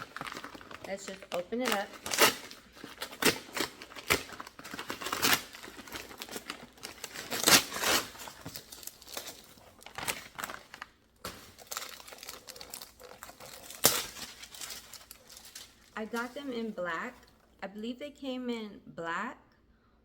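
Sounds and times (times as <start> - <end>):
packaging crinkling and tearing: 0.0 - 16.6.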